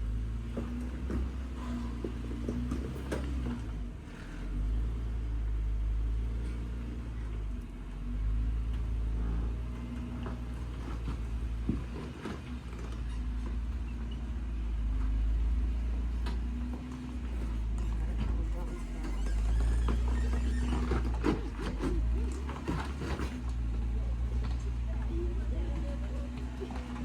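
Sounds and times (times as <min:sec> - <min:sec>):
off-road vehicle engine: 0:00.0 - 0:27.0.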